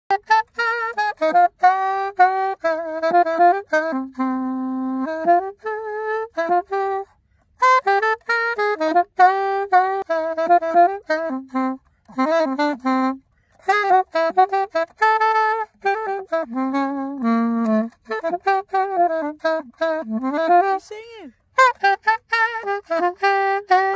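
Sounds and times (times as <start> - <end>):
saxophone melody: 0.1 - 23.9.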